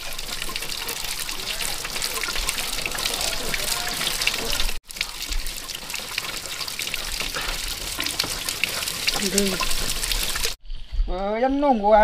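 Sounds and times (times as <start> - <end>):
water running and splashing: 0.0 - 10.6.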